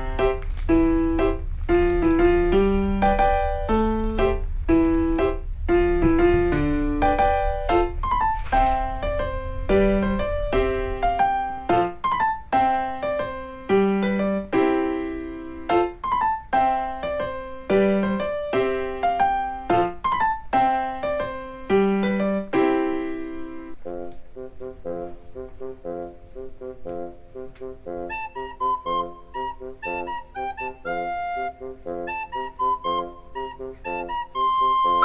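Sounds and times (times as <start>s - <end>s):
light piano melody: 0.0s - 35.0s.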